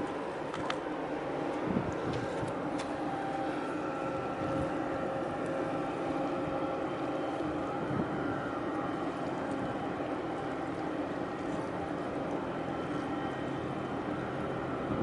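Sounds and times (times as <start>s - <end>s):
ship engine droning: 0.0s - 15.0s
wind and water noise: 0.0s - 15.0s.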